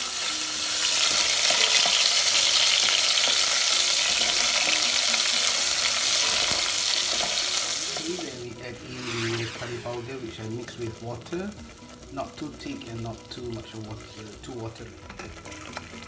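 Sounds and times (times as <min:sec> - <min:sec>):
garlic and onion sizzling in oil: 0:00.0 - 0:16.0.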